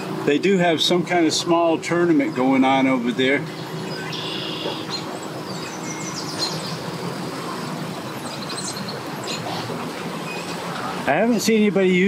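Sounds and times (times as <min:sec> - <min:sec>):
birds chirping: 0:00.0 - 0:12.0
low engine hum: 0:00.0 - 0:12.0.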